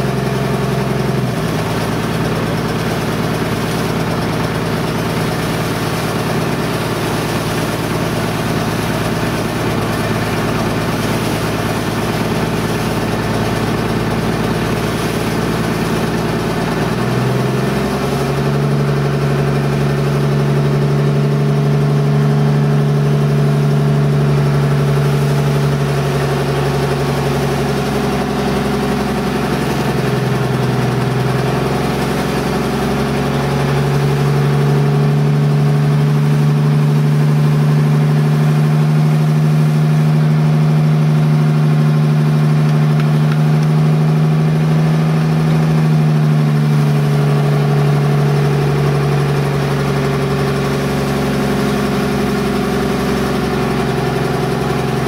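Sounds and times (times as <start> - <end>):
boat engine running: 0.0 - 55.0
water rushing along hull: 0.0 - 55.0.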